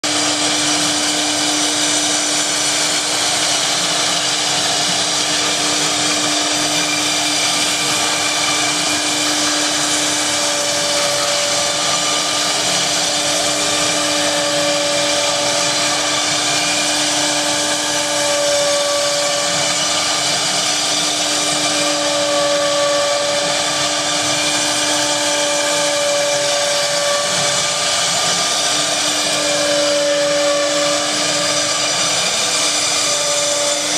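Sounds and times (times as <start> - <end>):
router spindle whining: 0.0 - 33.9.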